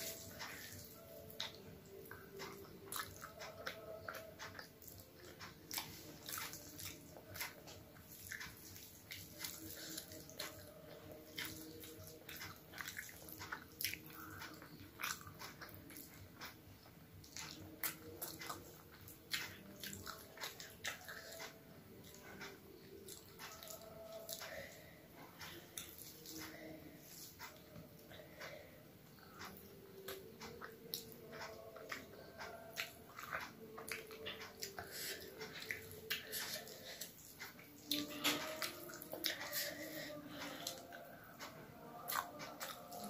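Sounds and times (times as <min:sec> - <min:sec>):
chewing and wet mouth smacks: 0:00.0 - 0:24.8, 0:29.2 - 0:43.0.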